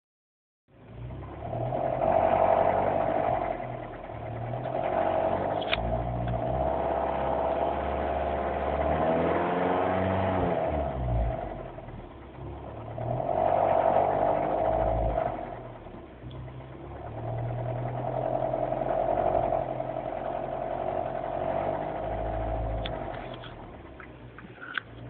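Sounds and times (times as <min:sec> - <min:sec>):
car engine running: 0:00.7 - 0:25.0
engine rattle: 0:00.8 - 0:25.0.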